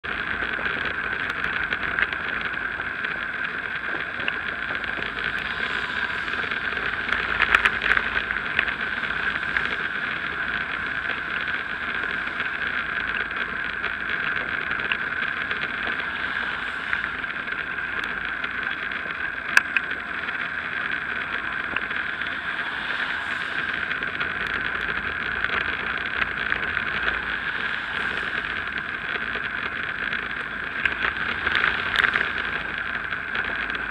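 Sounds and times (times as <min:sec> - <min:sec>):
bicycle road noise on wet road: 0:00.0 - 0:33.9
rushing wind: 0:00.0 - 0:33.9.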